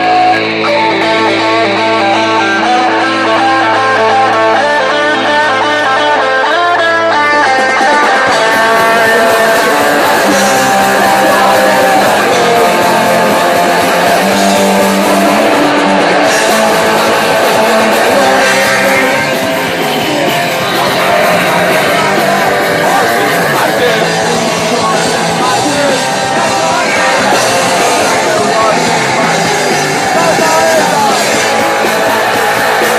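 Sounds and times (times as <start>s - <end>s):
electric guitar: 0.0s - 32.9s
punk band playing live: 0.0s - 32.9s.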